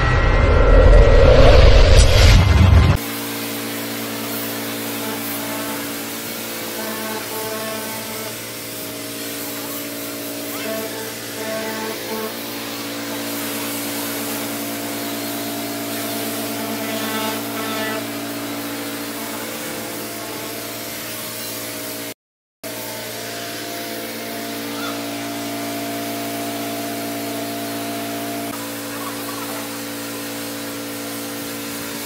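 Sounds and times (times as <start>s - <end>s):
electric disc sander running: 3.0s - 32.0s.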